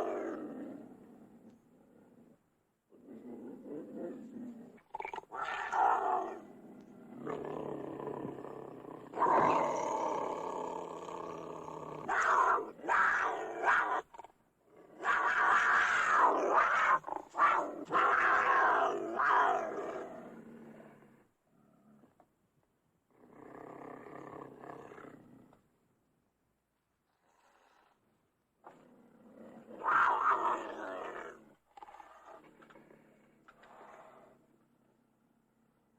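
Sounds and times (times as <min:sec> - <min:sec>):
cougar snarling and growling: 0:00.0 - 0:22.2, 0:23.1 - 0:25.6, 0:27.1 - 0:34.7.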